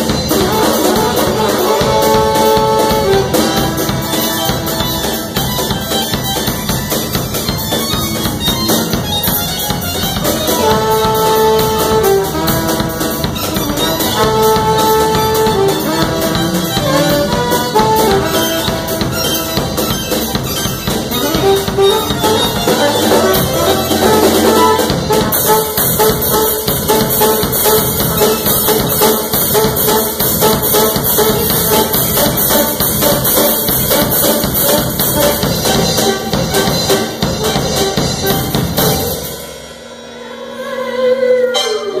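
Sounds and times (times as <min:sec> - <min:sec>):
jazz band playing: 0:00.0 - 0:40.3.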